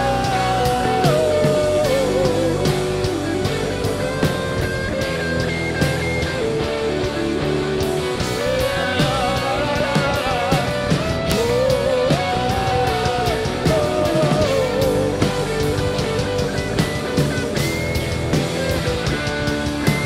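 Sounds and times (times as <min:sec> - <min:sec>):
live rock band playing: 0:00.0 - 0:20.0
wavering lead melody: 0:00.0 - 0:20.0.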